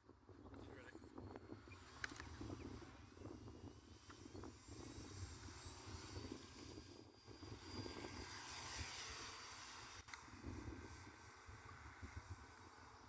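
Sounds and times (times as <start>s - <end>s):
wind buffeting microphone: 0.0s - 12.7s
model plane electric motor whine: 0.2s - 13.0s.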